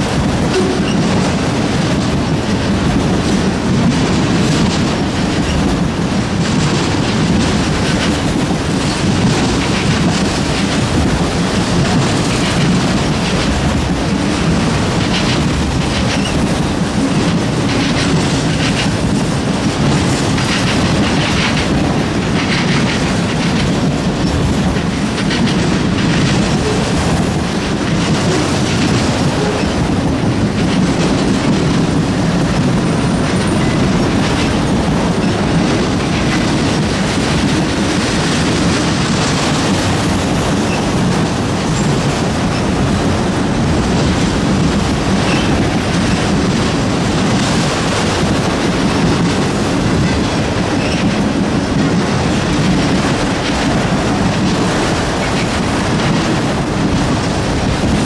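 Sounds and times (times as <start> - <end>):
freight train cars rolling past: 0.0 - 58.0
wheels clicking over rail joints: 0.0 - 58.0.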